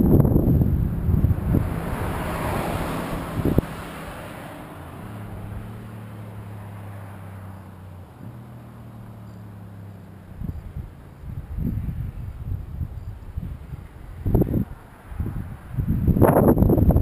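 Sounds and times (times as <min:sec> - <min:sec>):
faint engine hum: 0:00.0 - 0:17.0.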